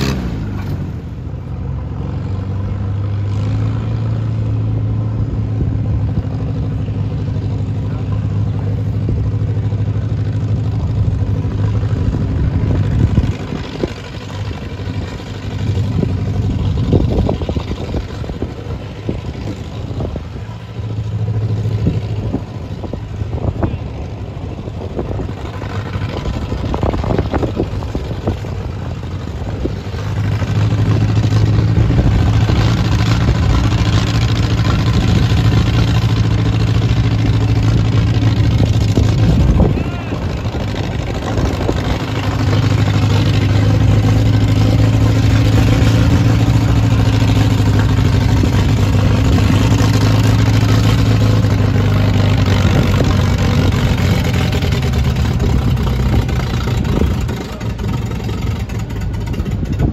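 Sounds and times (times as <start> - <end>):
tractor engine idling and revving: 0.0 - 59.9.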